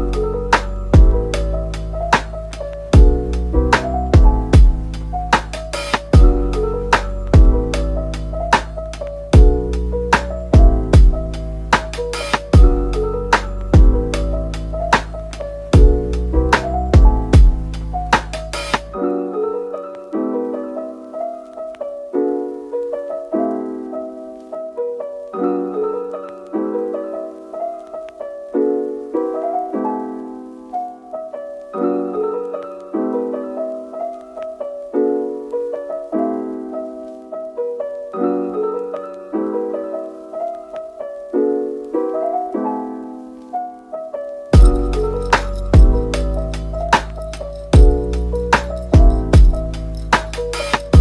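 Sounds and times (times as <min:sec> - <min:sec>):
gentle piano music: 0:00.0 - 0:51.0.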